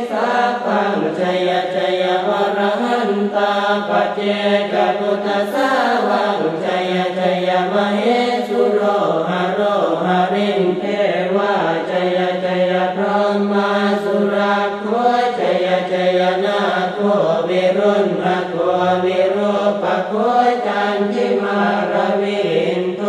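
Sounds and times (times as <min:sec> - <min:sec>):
low monotone chanting: 0:00.0 - 0:23.0.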